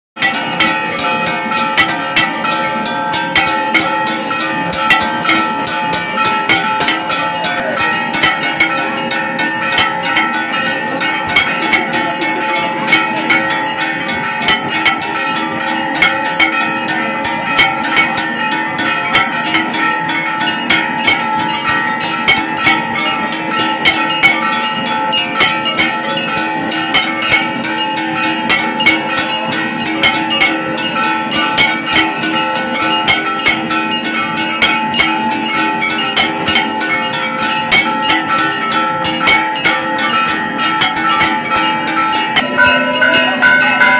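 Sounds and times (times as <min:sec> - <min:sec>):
fast drum and metal strikes: 0:00.2 - 0:43.9
metal bells ringing: 0:00.2 - 0:43.9.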